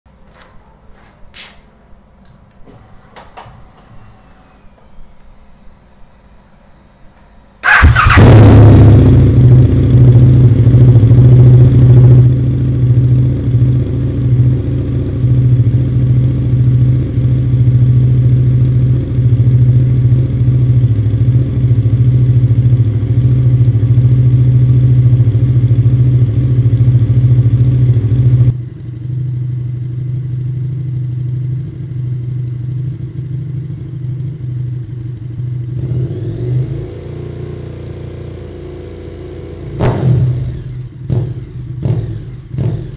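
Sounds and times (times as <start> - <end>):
motorcycle engine idling and revving: 7.6 - 42.9.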